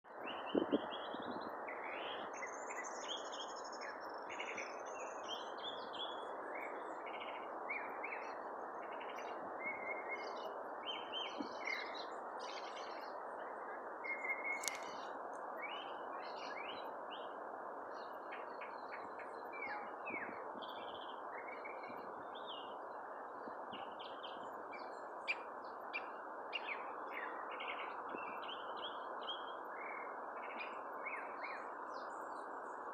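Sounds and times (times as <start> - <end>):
birds singing and chirping: 0.2 - 32.8.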